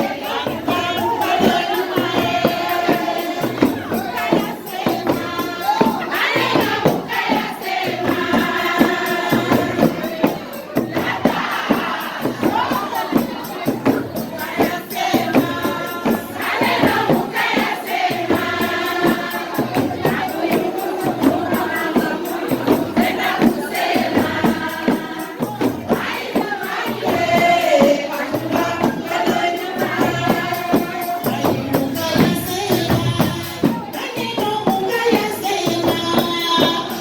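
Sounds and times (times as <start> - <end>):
fast busy percussion: 0.0 - 37.0
group of voices singing: 0.0 - 37.0.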